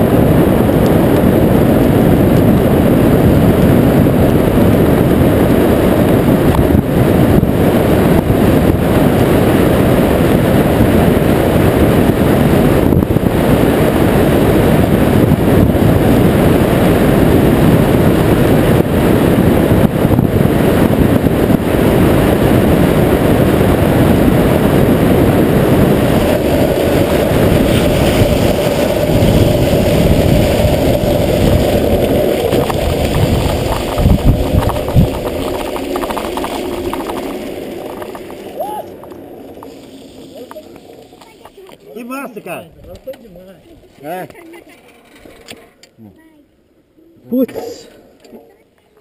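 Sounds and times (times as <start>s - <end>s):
steady hum: 0.0s - 41.8s
wind on microphone: 0.0s - 43.1s
wheels rumbling on asphalt: 0.0s - 46.5s.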